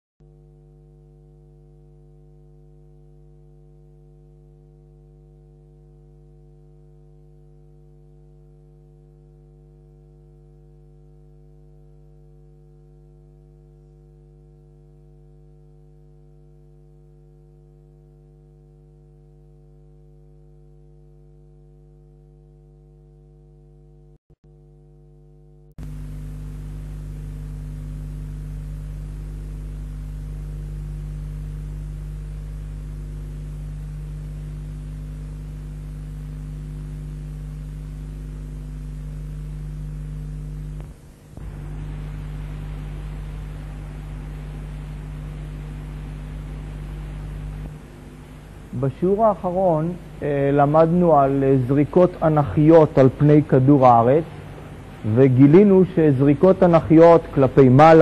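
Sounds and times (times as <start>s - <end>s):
electrical mains hum: 0.2s - 58.0s.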